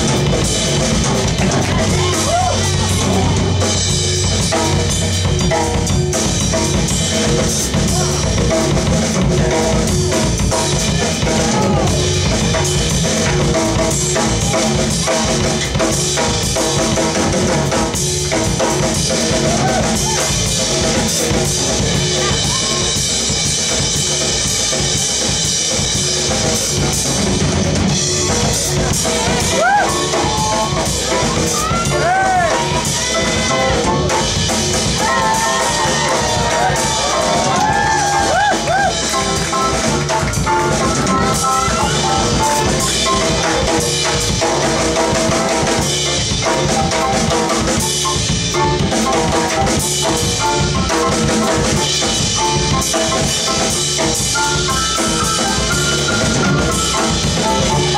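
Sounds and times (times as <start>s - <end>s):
drum kit beat: 0.0s - 57.9s
live band playing: 0.0s - 57.9s.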